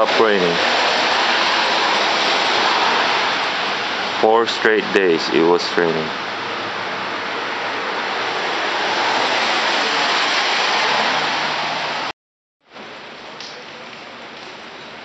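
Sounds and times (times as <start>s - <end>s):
heavy rain falling: 0.0s - 12.1s.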